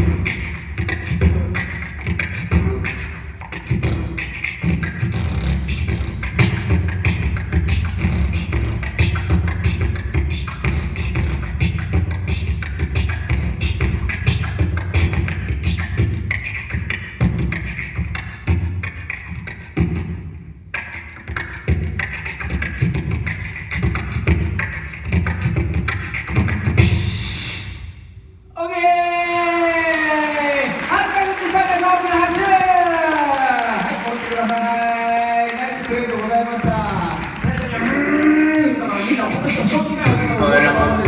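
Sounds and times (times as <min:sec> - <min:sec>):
amplified human beatbox: 0:00.0 - 0:28.3, 0:30.9 - 0:41.0.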